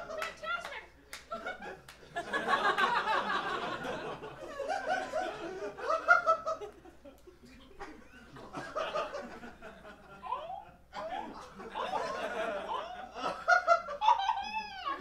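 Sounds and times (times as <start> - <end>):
audience laughing: 1.3 - 15.0.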